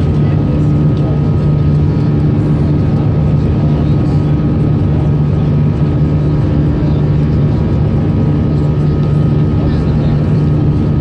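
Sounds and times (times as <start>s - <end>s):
jet engines droning in cabin: 0.0s - 11.0s
thin steady whine: 0.0s - 11.0s.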